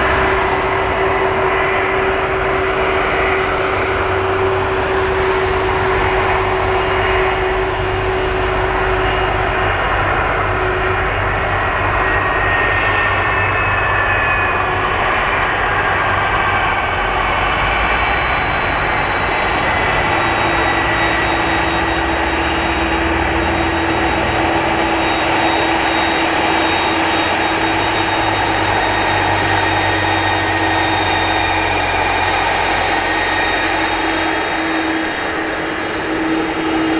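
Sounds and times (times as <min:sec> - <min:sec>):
jet engines roaring and whining: 0:00.0 - 0:36.9.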